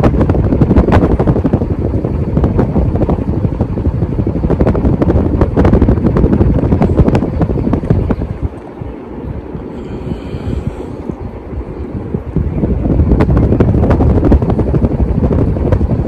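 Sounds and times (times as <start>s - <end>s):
fan wind buffeting microphone: 0.0s - 16.0s.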